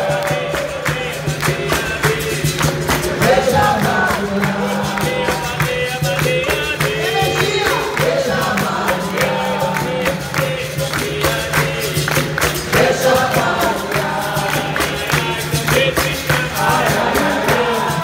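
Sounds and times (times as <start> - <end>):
group singing: 0.0 - 18.0
steady handclaps: 0.0 - 18.0.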